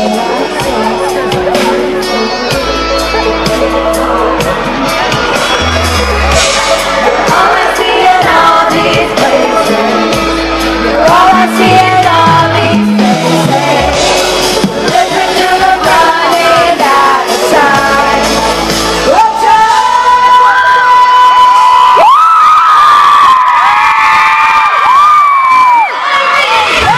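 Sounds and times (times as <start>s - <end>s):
band playing: 0.0s - 22.2s
person singing pop song: 0.0s - 22.2s
crowd shouting: 3.4s - 12.5s, 13.2s - 26.9s.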